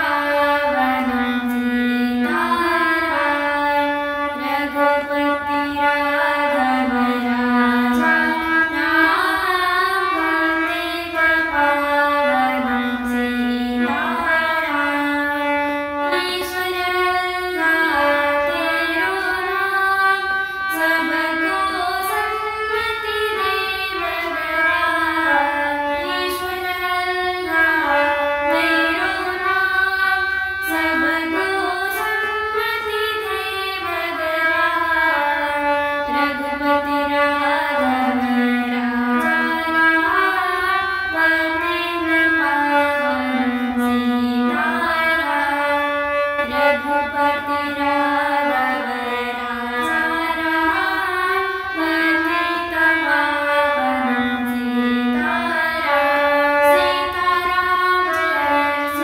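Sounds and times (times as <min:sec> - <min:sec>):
girl singing: 0:00.0 - 0:59.0
harmonium held notes: 0:00.0 - 0:59.0.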